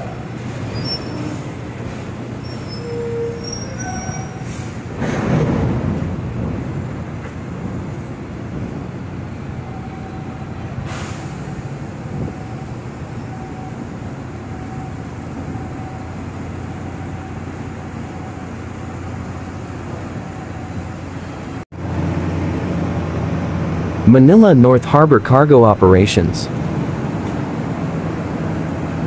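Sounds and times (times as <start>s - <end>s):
low machinery rumble and hum: 0.0s - 29.0s.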